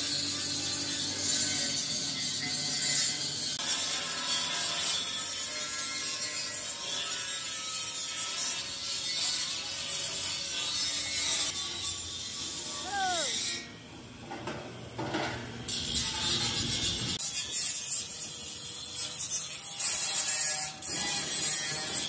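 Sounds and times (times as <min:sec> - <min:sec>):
angle grinder grinding metal: 0:00.0 - 0:13.7, 0:15.7 - 0:22.0.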